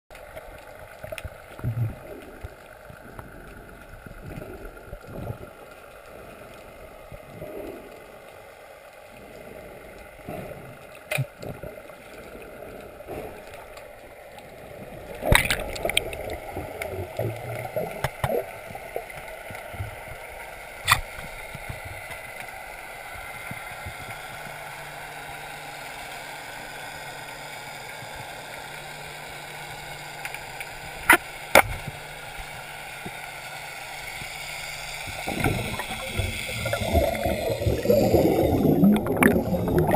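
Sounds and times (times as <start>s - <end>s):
underwater gurgling: 0.1s - 39.9s.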